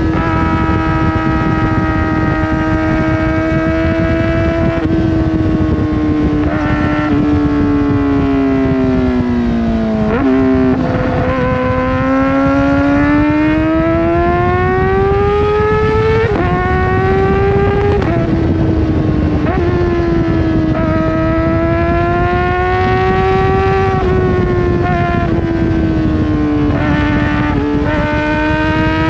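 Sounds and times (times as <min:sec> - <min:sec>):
heavy wind rush: 0:00.0 - 0:29.0
motorcycle engine revving: 0:00.0 - 0:29.0.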